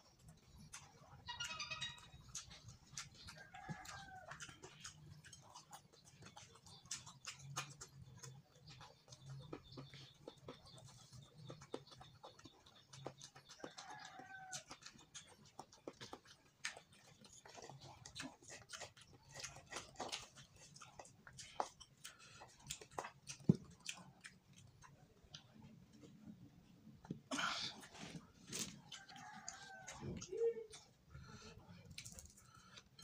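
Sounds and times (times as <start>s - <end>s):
wet chewing and lip smacks: 0.0s - 33.0s.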